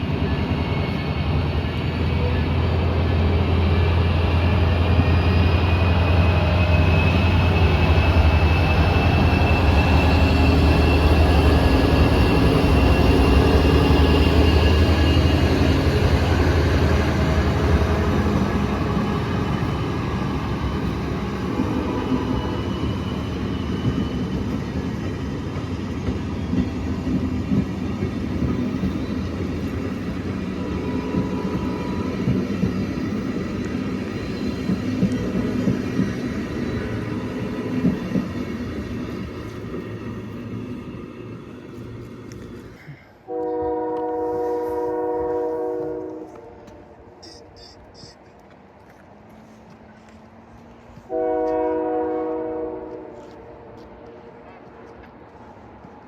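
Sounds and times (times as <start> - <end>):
train cars rumbling on rails: 0.0 - 56.0.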